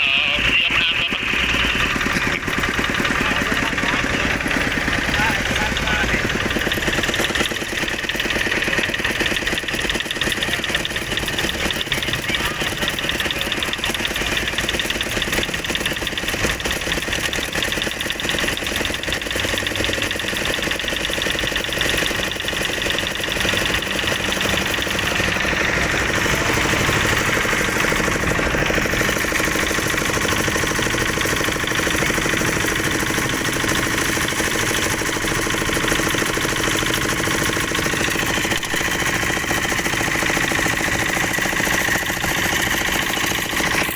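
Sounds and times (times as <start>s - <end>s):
diesel engine with rapid knock: 0.0s - 43.9s.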